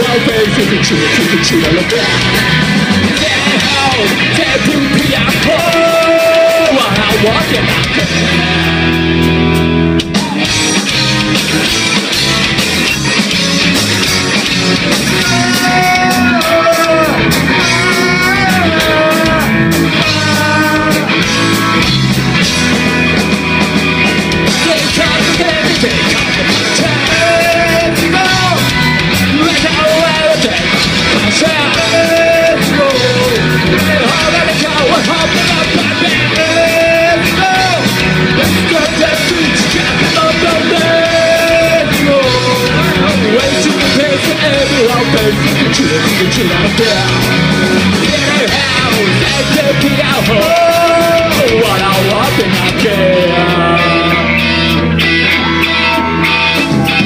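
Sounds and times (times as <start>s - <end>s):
man singing: 0.0s - 9.0s, 15.0s - 22.0s, 24.4s - 54.8s
rock band playing: 0.0s - 57.0s.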